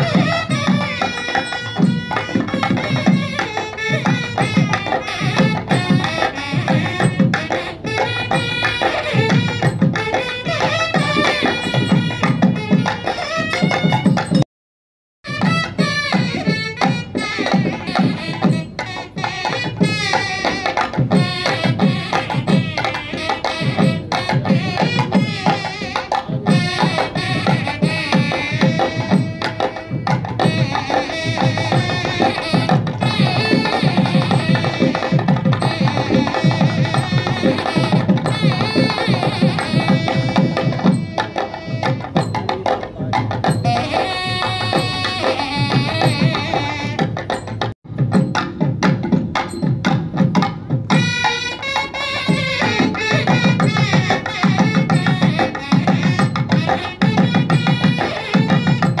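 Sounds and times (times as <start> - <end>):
steady drum beat: 0.0 - 14.4, 15.2 - 59.0
wavering melody: 0.0 - 14.4, 15.3 - 48.4
fast hand percussion: 0.0 - 14.5, 15.2 - 59.0.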